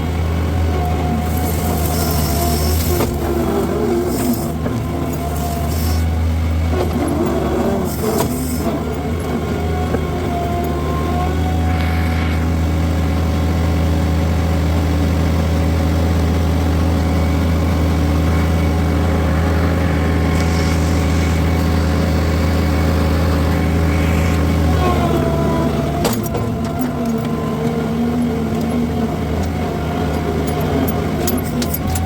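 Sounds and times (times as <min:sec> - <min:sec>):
skid steer engine running under load: 0:00.0 - 0:32.0.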